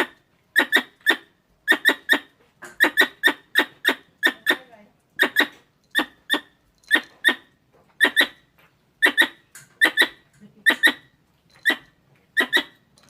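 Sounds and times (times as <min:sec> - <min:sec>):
squirrel squeaky chirps: 0:00.0 - 0:12.9.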